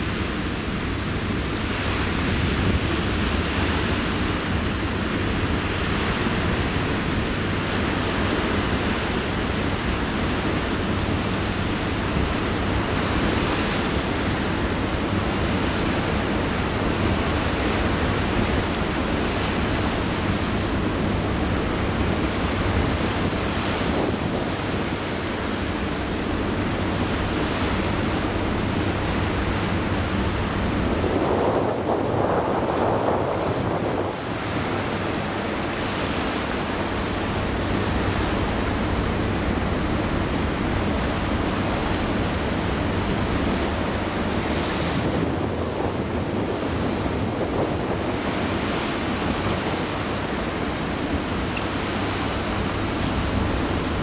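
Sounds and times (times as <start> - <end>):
sea water rushing: 0.0 - 54.0
wind buffeting microphone: 0.0 - 54.0.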